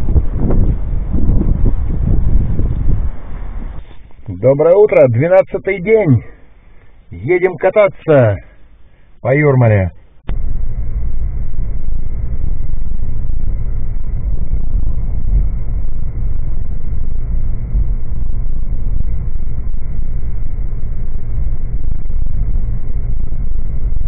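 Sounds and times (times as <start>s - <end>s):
engine and road noise rumble: 0.0s - 24.0s.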